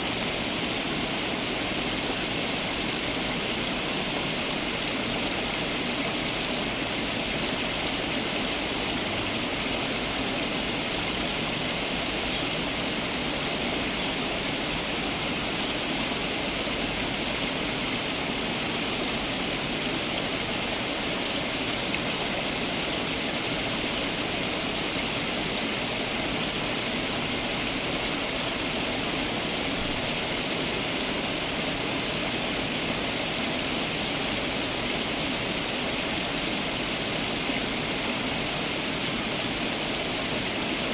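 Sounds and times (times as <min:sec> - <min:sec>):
fountain water splashing: 0:00.0 - 0:40.9.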